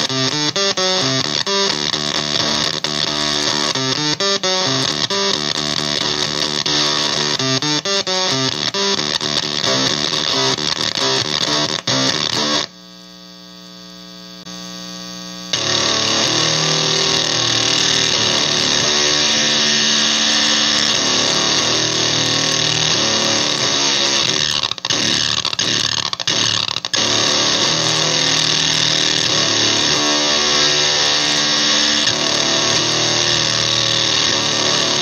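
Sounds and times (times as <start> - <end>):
palm-muted electric guitar riff: 0.0 - 12.7, 15.5 - 35.0
buzzing guitar tone: 0.0 - 35.0.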